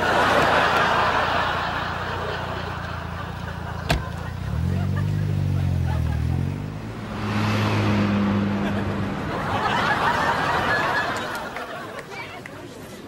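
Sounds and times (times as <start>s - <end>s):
car engines passing: 0.0s - 12.9s
background noise: 0.0s - 13.0s.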